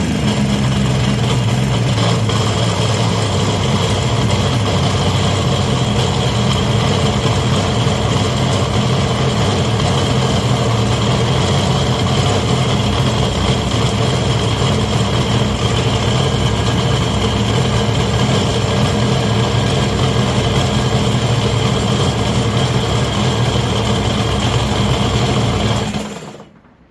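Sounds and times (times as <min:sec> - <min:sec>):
motorcycle engine idling: 0:00.0 - 0:26.8.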